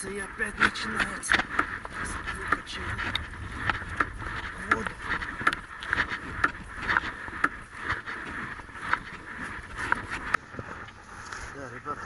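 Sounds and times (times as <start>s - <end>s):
hand pump strokes: 0.0s - 12.0s
wind rumble on microphone: 0.0s - 12.0s.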